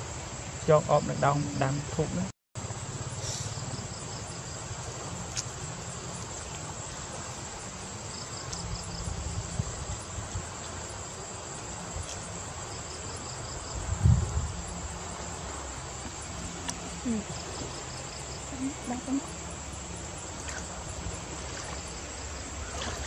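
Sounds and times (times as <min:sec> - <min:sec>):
insects buzzing: 0:00.0 - 0:23.0
pulsed insect chirp: 0:00.0 - 0:23.0.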